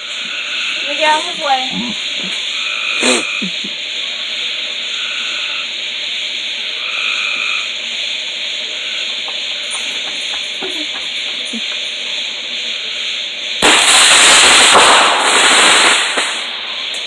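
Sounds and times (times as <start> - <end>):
steady loud hiss: 0.0 - 17.0.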